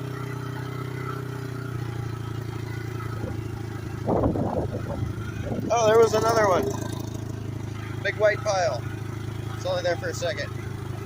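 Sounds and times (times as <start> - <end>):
small engine running at low revs: 0.0 - 11.0.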